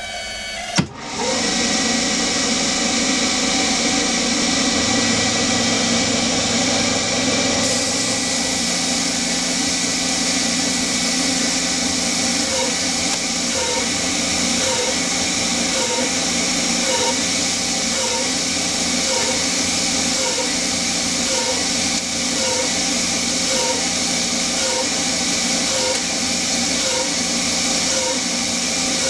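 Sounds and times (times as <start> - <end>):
lathe cutting metal: 0.0 - 29.0
air mister hissing: 0.8 - 29.0.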